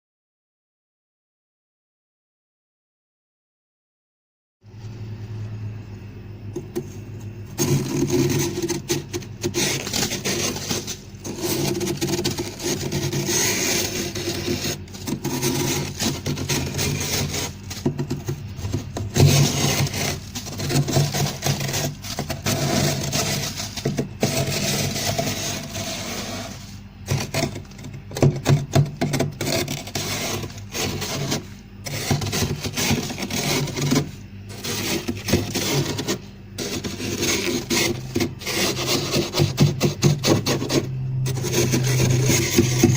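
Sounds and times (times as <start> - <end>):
low steady hum: 4.6 - 42.9
frost being scraped: 6.6 - 42.9.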